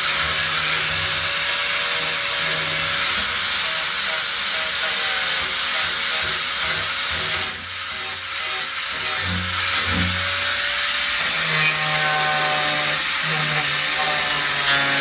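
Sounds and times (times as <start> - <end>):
angle grinder grinding: 0.0 - 15.0.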